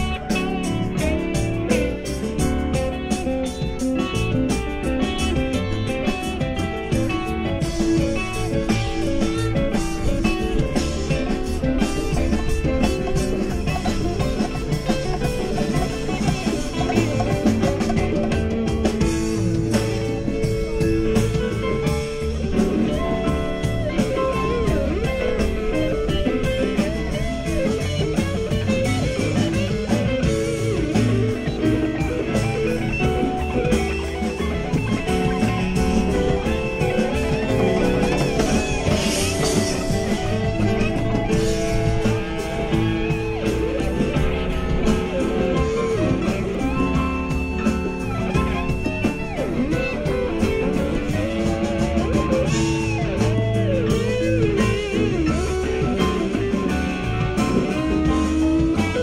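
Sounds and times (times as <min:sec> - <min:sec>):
bass guitar: 0:00.0 - 0:59.0
drum kit: 0:00.0 - 0:59.0
lead guitar melody: 0:00.0 - 0:59.0.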